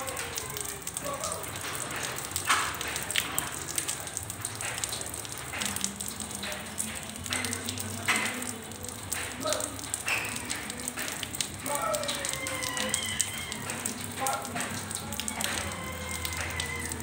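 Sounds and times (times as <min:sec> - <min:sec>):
rain on hard surface: 0:00.0 - 0:17.0.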